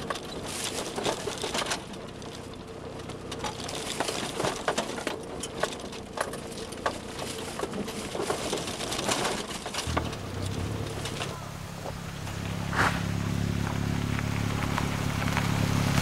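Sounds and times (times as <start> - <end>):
gravel crunching under tyres: 0.0 - 16.0
low engine hum: 0.0 - 16.0.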